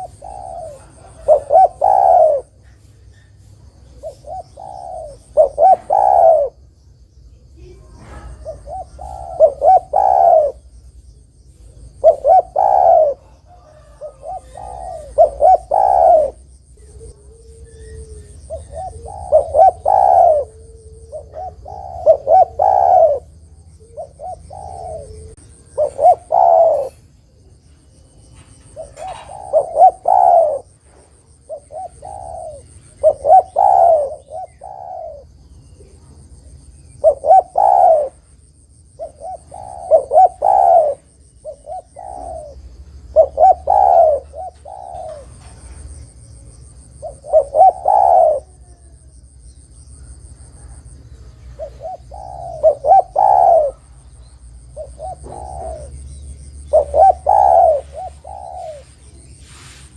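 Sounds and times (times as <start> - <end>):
dove cooing: 0.0 - 6.8, 7.5 - 59.7.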